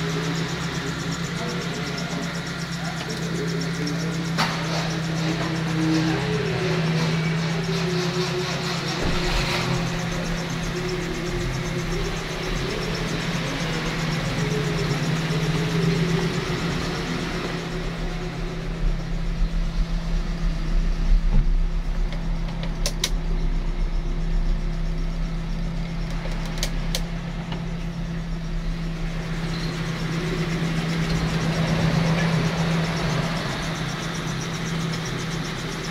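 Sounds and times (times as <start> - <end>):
engine idling: 0.0 - 35.9.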